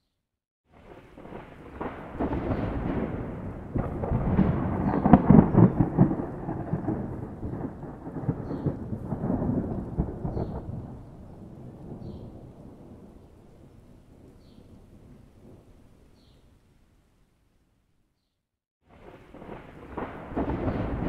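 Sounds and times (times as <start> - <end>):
rolling thunder: 0.7 - 15.8, 18.9 - 21.0.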